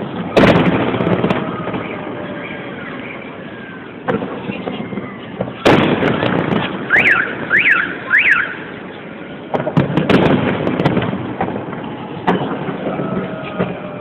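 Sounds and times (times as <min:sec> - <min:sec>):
firework bangs: 0:00.0 - 0:14.0
firework crackle: 0:00.0 - 0:14.0.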